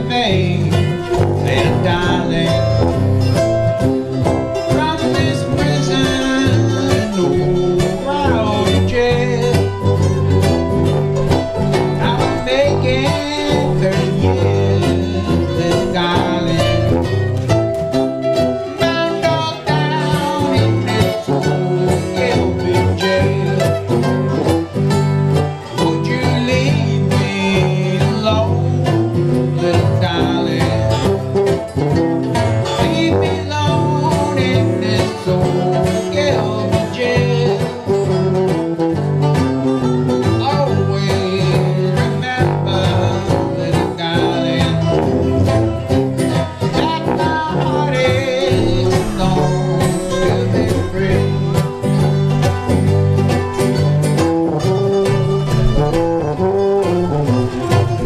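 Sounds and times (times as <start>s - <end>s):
string band playing country music: 0.0s - 58.0s.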